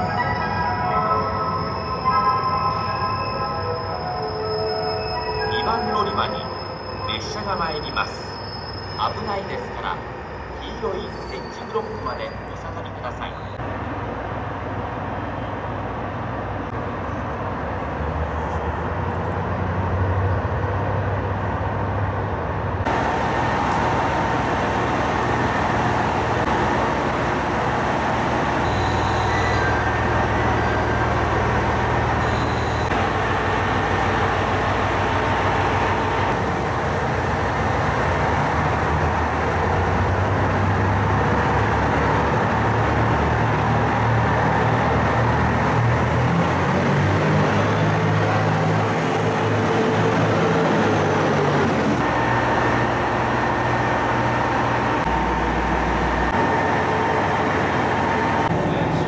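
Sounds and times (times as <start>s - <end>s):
steady mechanical hum of trains: 0.0s - 59.0s.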